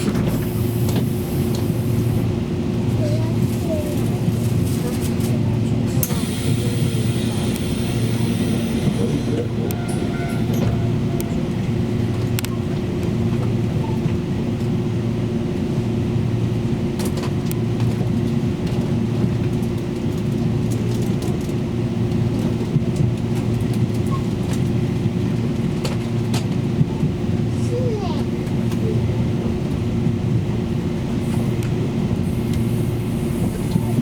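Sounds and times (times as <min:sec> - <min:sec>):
train rumbling with low hum: 0:00.0 - 0:34.0.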